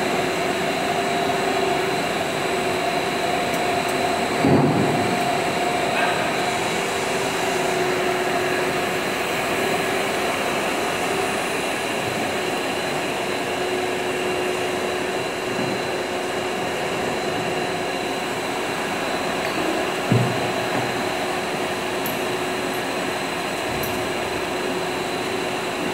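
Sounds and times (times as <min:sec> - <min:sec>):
machine whirring and whining: 0:00.0 - 0:25.9.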